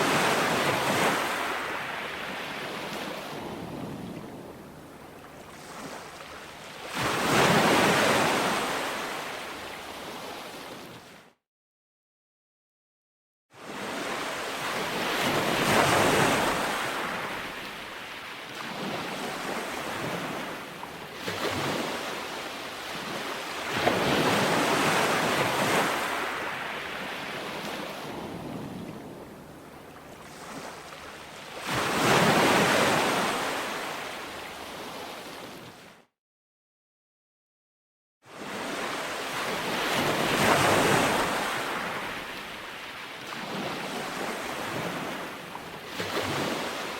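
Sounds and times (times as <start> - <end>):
ocean waves breaking on shore: 0.0 - 11.4, 13.6 - 36.1, 38.3 - 46.9.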